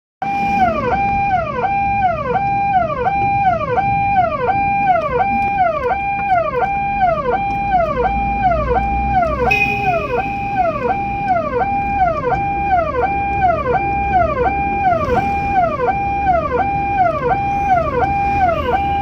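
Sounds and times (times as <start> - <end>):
electronic ambulance siren: 0.2 - 19.0.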